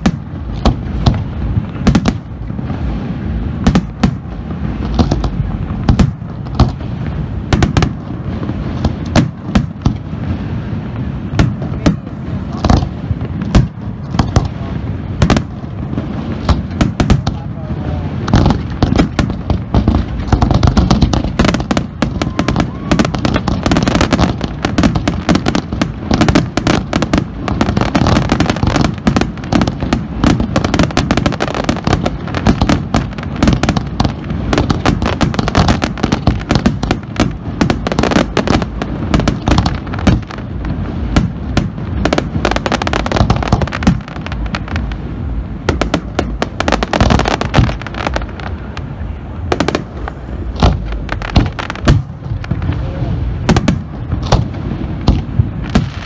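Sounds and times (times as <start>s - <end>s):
fireworks bursts and crackle: 0.0s - 56.0s.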